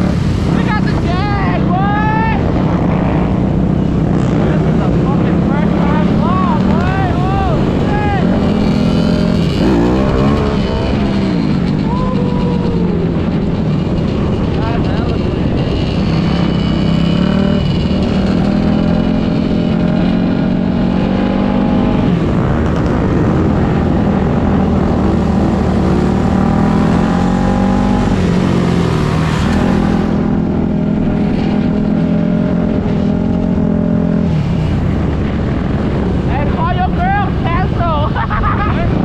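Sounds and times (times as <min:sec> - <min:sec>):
motorcycle engines running: 0:00.0 - 0:39.0.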